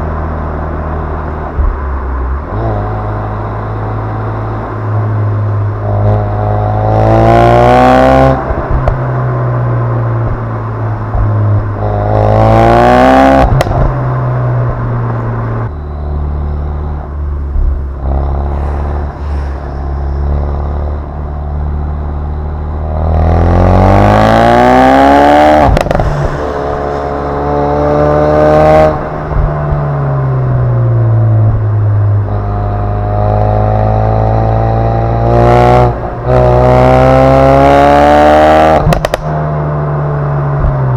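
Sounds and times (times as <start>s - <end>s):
car exhaust revving: 0.0s - 40.9s.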